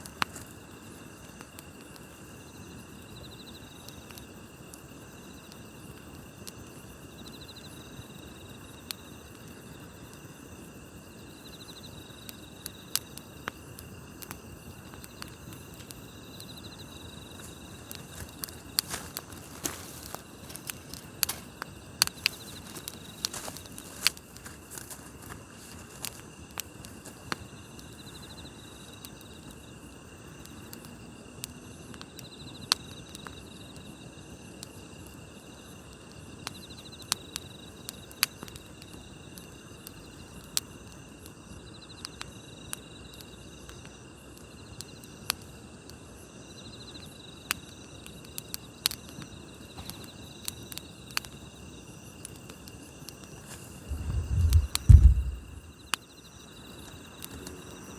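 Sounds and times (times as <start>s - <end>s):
campfire crackling and popping: 0.0s - 57.9s
grass insects trilling: 0.0s - 57.9s
insect chirp: 0.0s - 57.9s.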